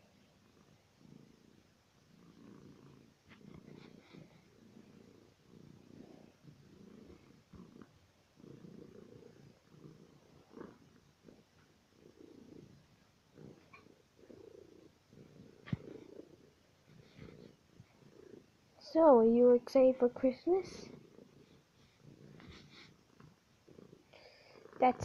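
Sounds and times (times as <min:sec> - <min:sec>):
faint rustles: 0:00.0 - 0:24.9
cat purring: 0:00.0 - 0:25.0.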